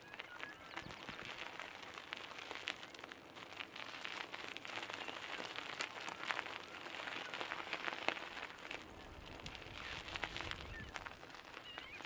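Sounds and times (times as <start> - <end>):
bicycle tyres crunching on gravel: 0.0 - 12.0.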